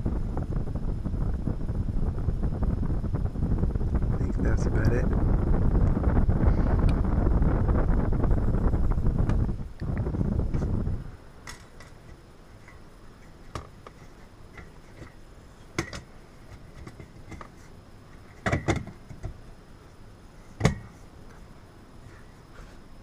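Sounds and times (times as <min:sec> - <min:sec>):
handling rumble: 0:00.0 - 0:23.0.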